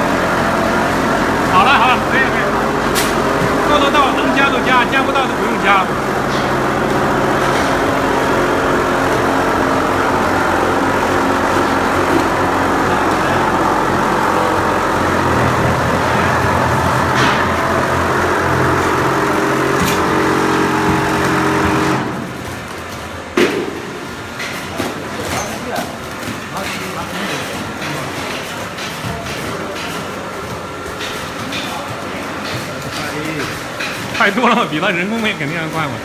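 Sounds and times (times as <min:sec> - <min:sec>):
plastering machine motor hum: 0:00.0 - 0:36.0.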